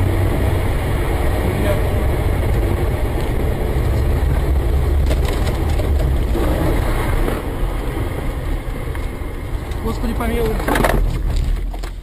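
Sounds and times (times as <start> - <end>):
car engine rumbling: 0.0 - 12.0
road noise: 0.0 - 12.0.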